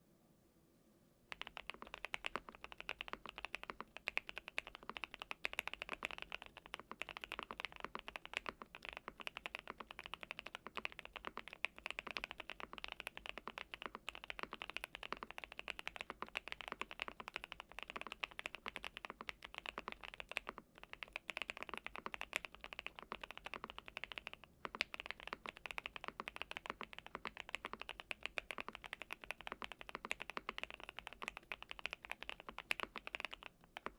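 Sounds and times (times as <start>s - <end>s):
typing on mechanical keyboard: 1.3s - 33.9s.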